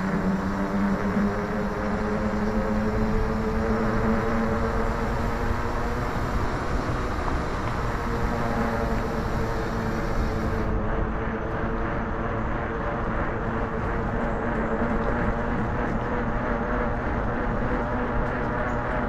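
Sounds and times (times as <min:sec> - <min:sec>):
fat tires humming on pavement: 0:00.0 - 0:19.0
wind on microphone: 0:00.0 - 0:19.0.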